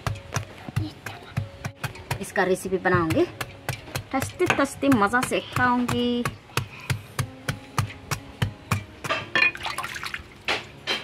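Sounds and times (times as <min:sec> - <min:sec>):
knife chopping fruit rind: 0:00.0 - 0:09.3.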